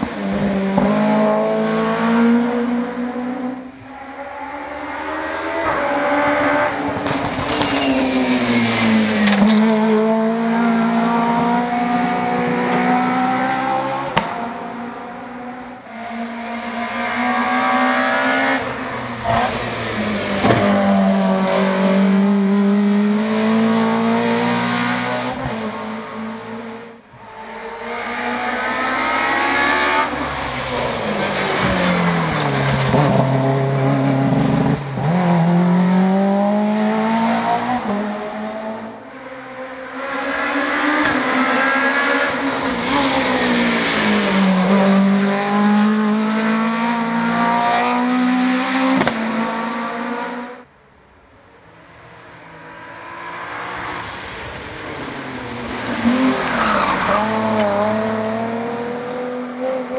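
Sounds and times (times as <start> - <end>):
race cars accelerating: 0.0 - 50.8, 51.4 - 59.9.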